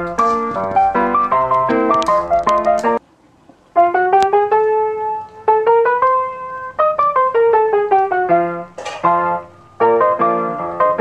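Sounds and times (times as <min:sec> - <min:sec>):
slow piano melody: 0:00.0 - 0:03.0, 0:03.6 - 0:11.0.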